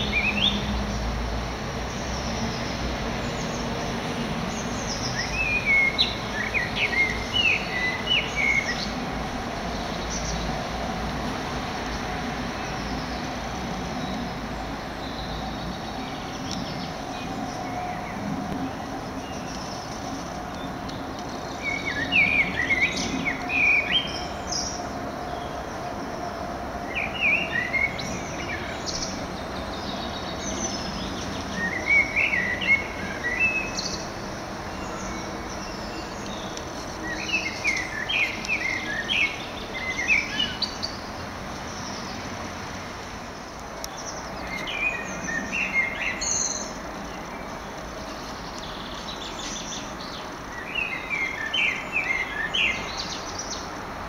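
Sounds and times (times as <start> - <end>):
songbird chirping: 0.0 - 53.8
steady background hiss: 0.0 - 54.0.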